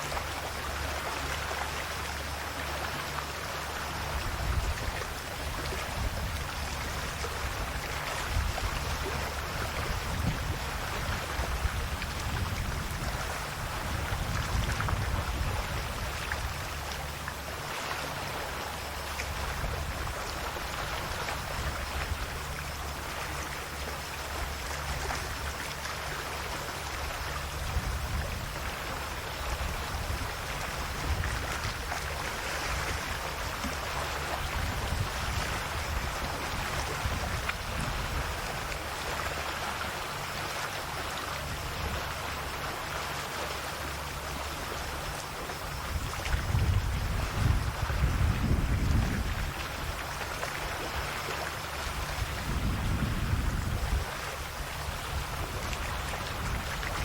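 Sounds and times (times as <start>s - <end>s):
sea waves lapping at shore: 0.0s - 57.0s.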